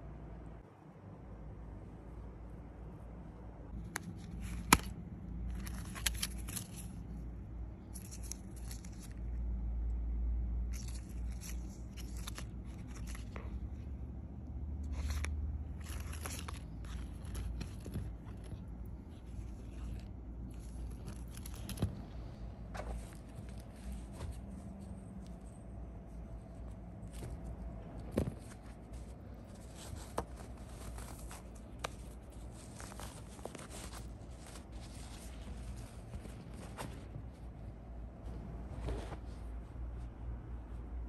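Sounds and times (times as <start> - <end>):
rustling of paper and fabric: 3.7 - 41.0.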